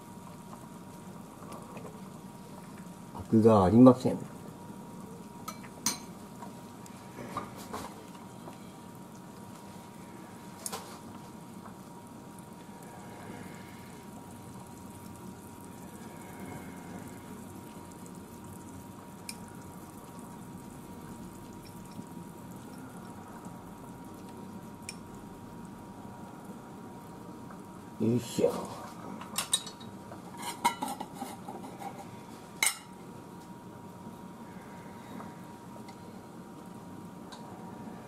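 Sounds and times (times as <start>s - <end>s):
soup simmering: 0.0s - 3.4s, 4.2s - 31.7s.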